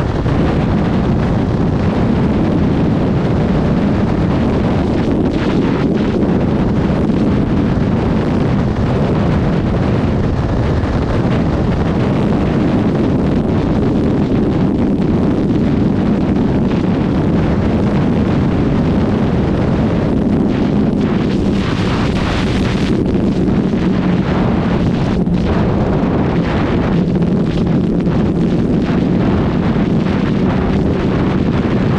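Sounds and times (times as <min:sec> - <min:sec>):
motorcycle engine drone: 0:00.0 - 0:31.9
wind buffeting microphone: 0:00.0 - 0:31.9.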